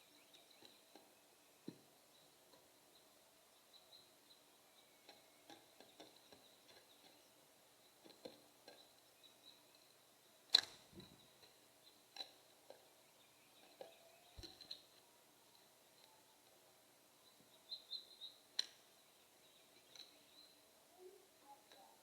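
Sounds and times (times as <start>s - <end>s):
birds tapping at seed feeder: 0.2s - 16.6s, 17.3s - 20.6s, 21.5s - 22.0s.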